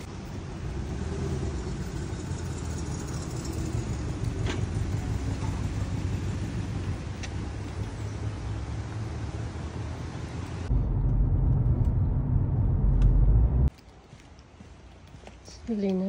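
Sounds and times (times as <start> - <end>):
low outdoor rumble: 0.0 - 13.7.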